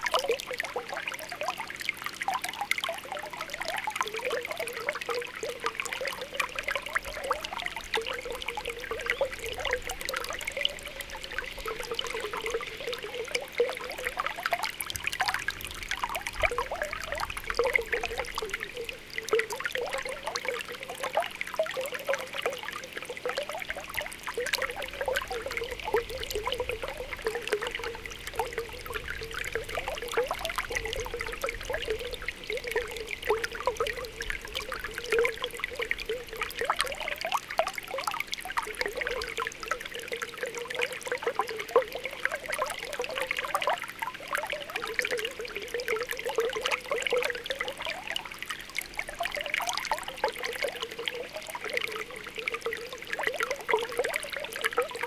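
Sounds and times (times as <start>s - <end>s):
spring water bubbling: 0.0s - 55.0s
water trickling: 0.0s - 55.0s.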